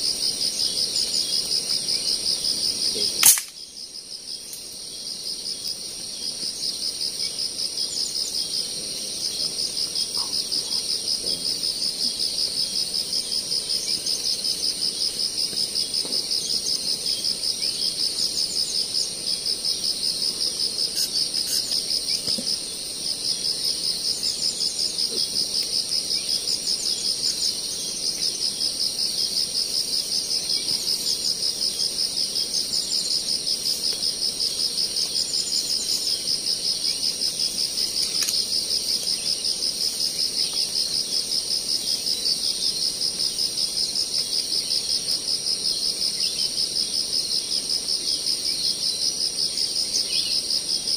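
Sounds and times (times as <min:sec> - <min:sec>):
insect chorus buzzing trill: 0:00.0 - 0:50.9.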